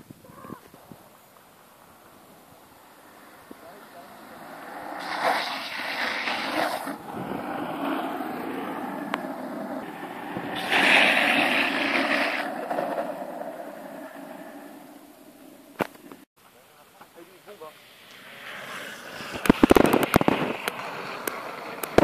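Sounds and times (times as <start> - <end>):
longboard wheels rolling on asphalt: 0.0 - 22.0
wheels sliding on road: 0.0 - 22.0.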